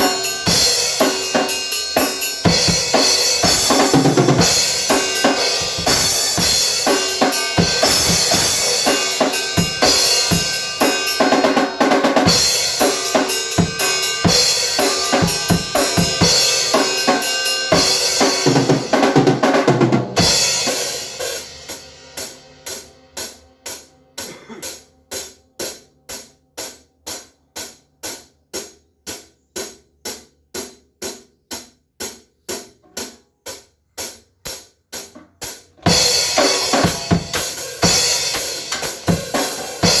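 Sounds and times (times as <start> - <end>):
full band music with drum kit: 0.0 - 29.8, 34.0 - 40.0.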